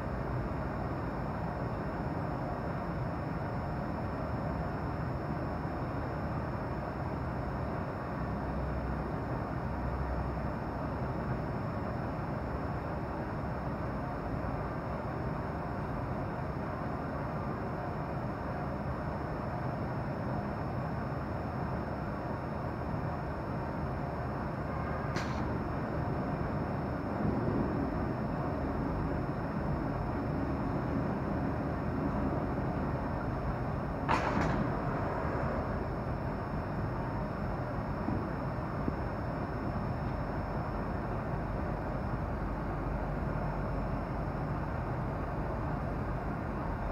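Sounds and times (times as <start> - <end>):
faint high whine: 0.0 - 46.9.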